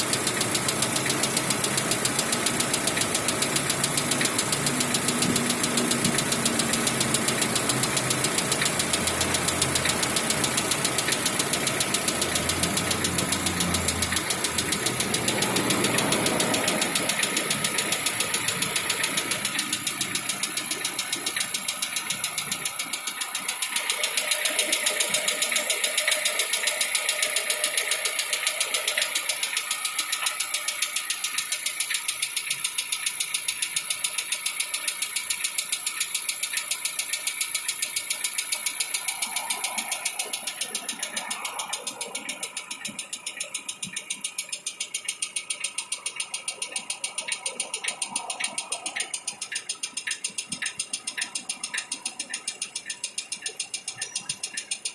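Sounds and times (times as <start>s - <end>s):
car engine idling with ticking knock: 0.0s - 54.9s.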